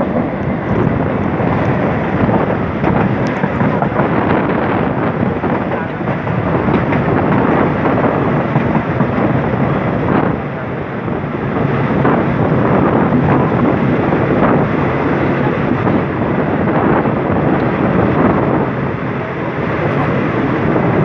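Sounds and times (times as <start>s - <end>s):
passenger train on track: 0.0s - 21.0s
wind buffeting microphone: 0.0s - 21.0s.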